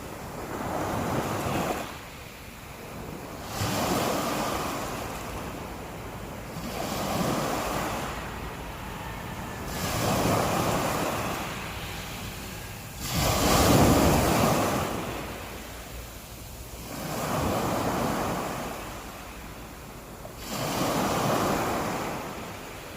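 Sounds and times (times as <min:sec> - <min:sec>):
sea waves breaking on beach: 0:00.0 - 0:22.9.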